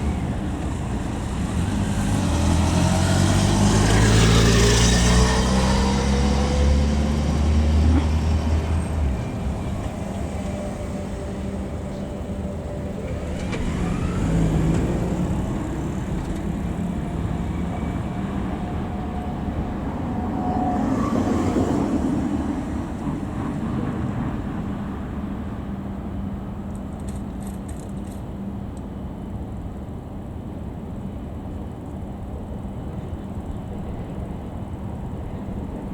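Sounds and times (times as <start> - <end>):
locomotive engine droning: 0.0 - 35.9.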